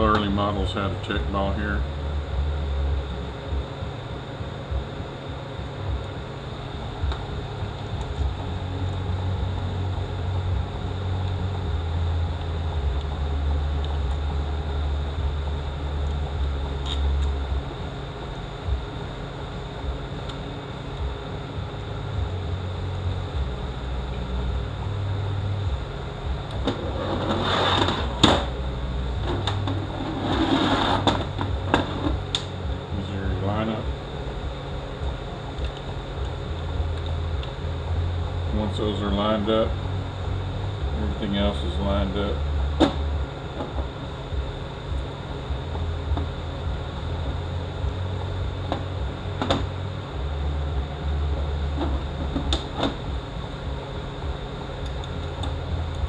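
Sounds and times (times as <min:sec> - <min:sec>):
workshop background hum: 0:00.0 - 0:56.0.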